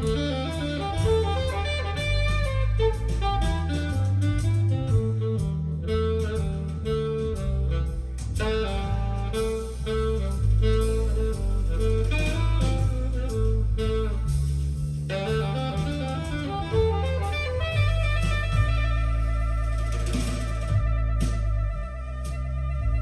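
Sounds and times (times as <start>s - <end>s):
jazz-blues guitar and bass: 0.0s - 23.0s.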